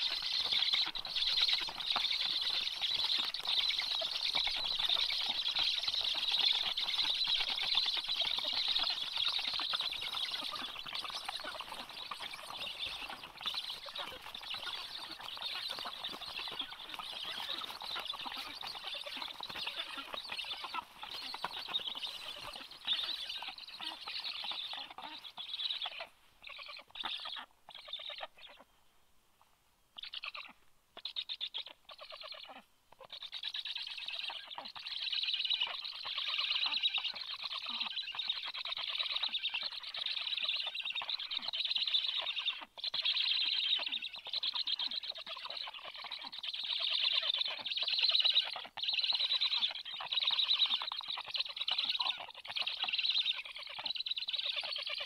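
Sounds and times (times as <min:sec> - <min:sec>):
stork nestlings begging calls: 0:00.0 - 0:28.6, 0:32.0 - 0:55.0.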